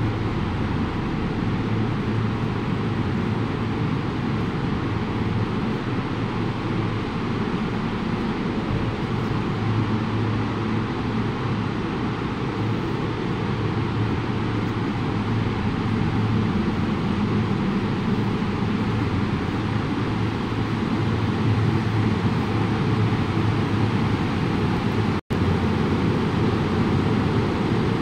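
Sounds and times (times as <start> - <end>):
factory machinery drone: 0.0 - 28.0.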